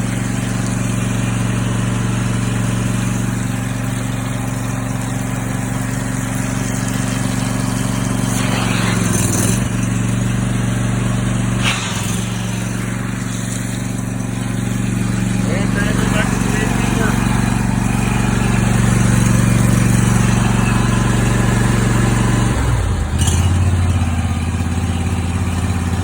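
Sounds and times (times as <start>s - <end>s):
pressure washer pump hiss: 0.0s - 22.2s
engine running steadily: 0.0s - 26.0s.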